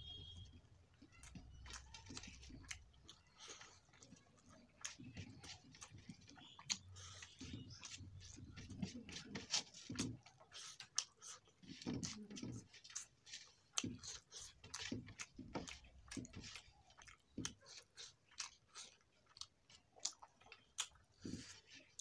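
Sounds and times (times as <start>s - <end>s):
wet open-mouthed chewing: 0.4s - 22.0s.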